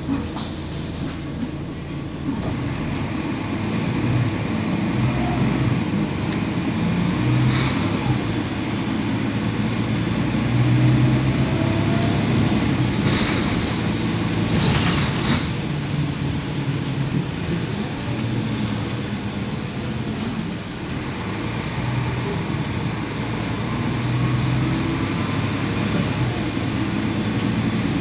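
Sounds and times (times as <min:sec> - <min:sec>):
bus engine drone: 0:00.0 - 0:28.0
road and tyre noise: 0:00.0 - 0:28.0.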